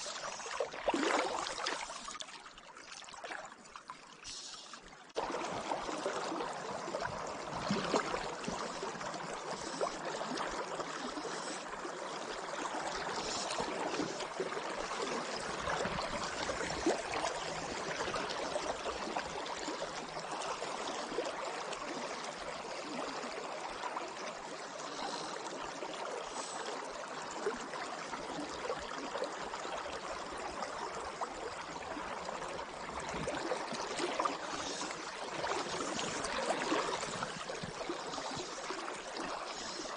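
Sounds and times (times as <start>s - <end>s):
river current flowing: 0.0s - 39.9s.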